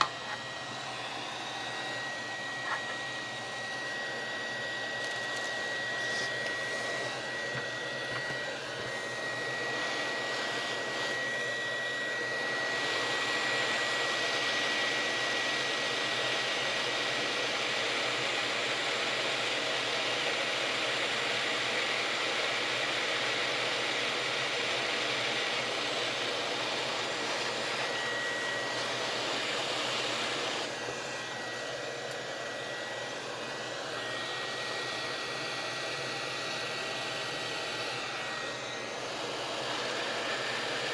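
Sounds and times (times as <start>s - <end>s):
hot-air soldering gun blowing: 0.0s - 40.9s.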